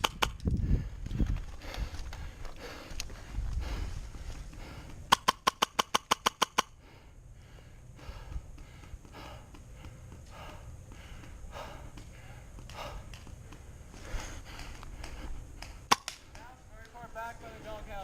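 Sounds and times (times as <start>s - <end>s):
faint breathing: 0.5s - 5.2s, 6.6s - 16.4s.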